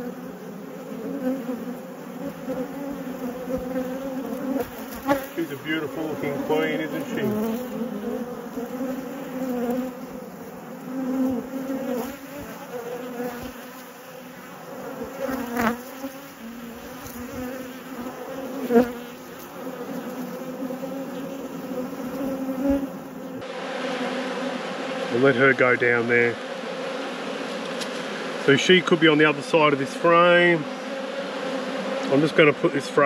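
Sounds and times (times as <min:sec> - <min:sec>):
bee buzzing close past: 0:00.0 - 0:33.0
bees humming: 0:00.0 - 0:33.0.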